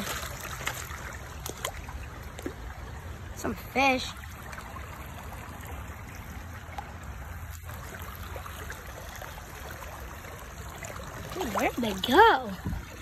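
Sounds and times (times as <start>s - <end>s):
creek water trickling: 0.0s - 13.0s.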